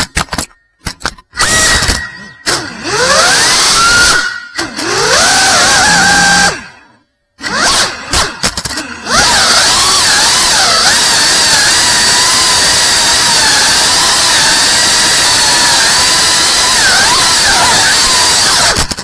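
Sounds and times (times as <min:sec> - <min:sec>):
drone motors whining: 0:01.3 - 0:19.0.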